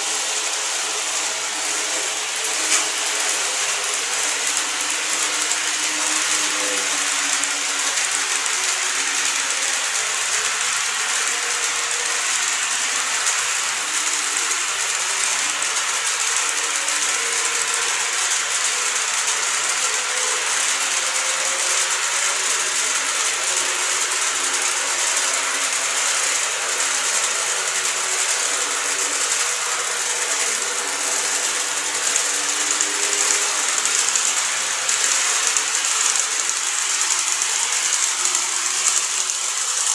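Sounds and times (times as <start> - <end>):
model train whirring and clattering: 0.0 - 39.9.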